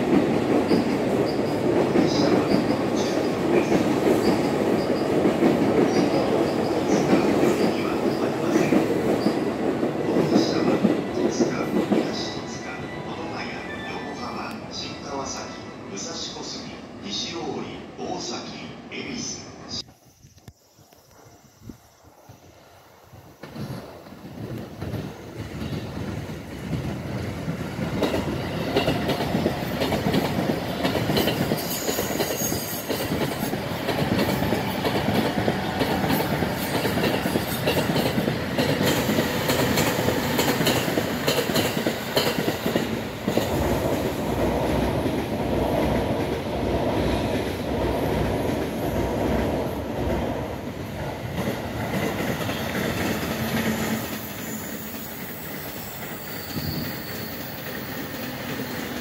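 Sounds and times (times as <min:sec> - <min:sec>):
electric train passing: 0:00.0 - 0:59.0.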